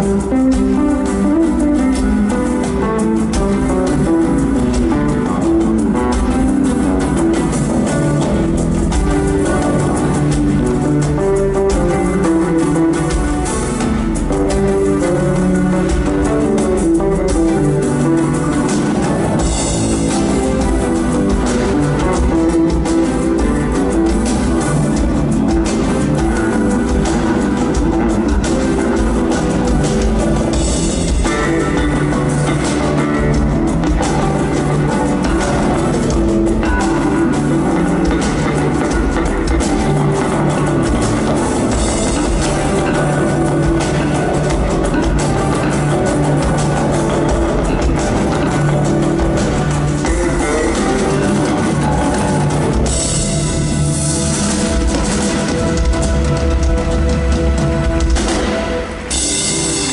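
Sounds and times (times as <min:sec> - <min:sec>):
acoustic-electric guitar: 0:00.0 - 0:59.9
drum kit rock beat: 0:00.0 - 0:59.9
electric bass: 0:00.0 - 0:59.9
live band playing loudly: 0:00.0 - 0:59.9.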